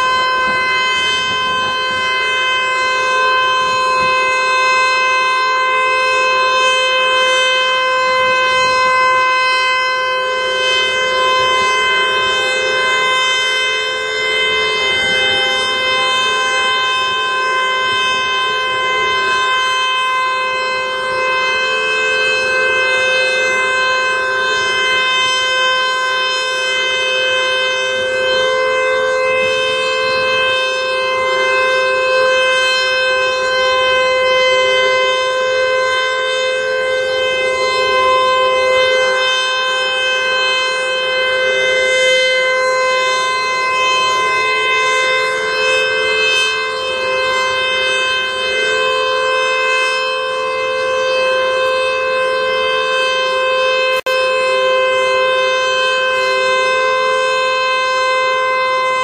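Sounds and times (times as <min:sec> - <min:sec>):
warning siren steady tone: 0:00.0 - 0:59.0.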